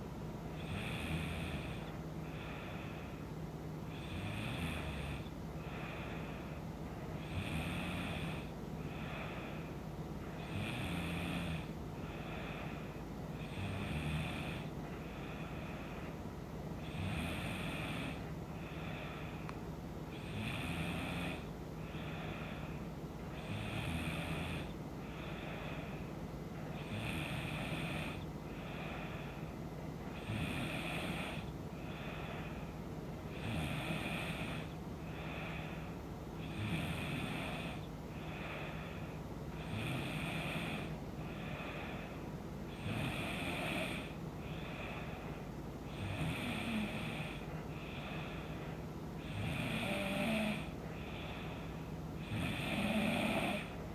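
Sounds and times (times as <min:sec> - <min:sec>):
woman snoring: 0:00.6 - 0:03.1, 0:03.9 - 0:06.4, 0:07.2 - 0:09.7, 0:10.4 - 0:15.9, 0:16.8 - 0:19.5, 0:20.1 - 0:26.1, 0:26.8 - 0:29.4, 0:30.1 - 0:32.6, 0:33.3 - 0:45.2, 0:45.9 - 0:53.9.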